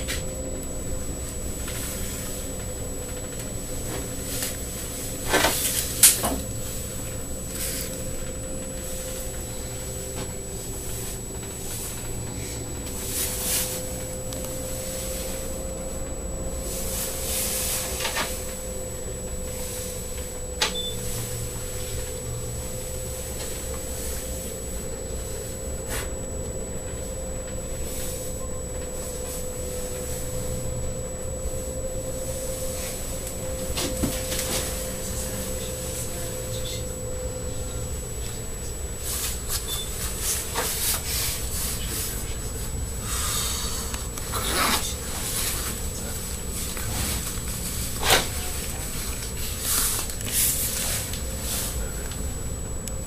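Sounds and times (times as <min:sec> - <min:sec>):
gondola cabin hum: 0:00.0 - 0:53.0.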